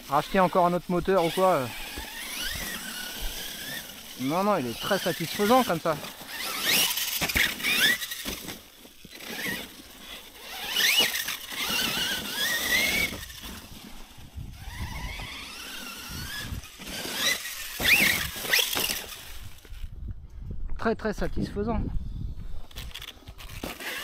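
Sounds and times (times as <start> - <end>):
electric motor whining: 0.0 - 19.9, 22.7 - 24.0.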